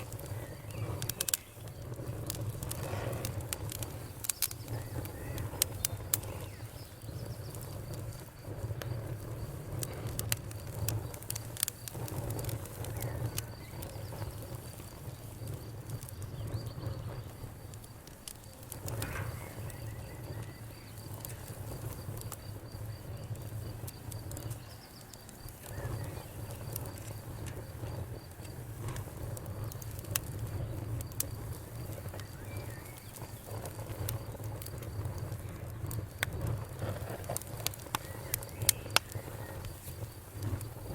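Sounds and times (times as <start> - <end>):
fire pops and snaps: 0.0 - 40.9
wood fire crackling: 0.0 - 40.9.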